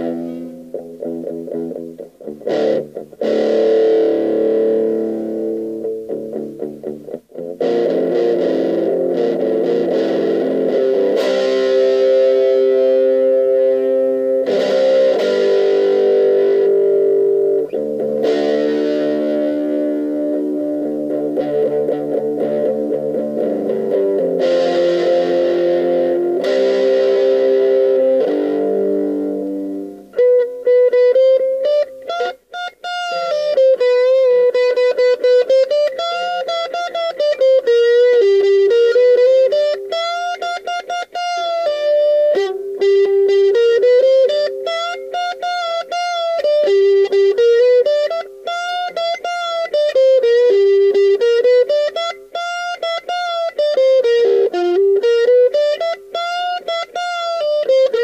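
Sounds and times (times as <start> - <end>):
distorted electric guitar: 0.0 - 58.0.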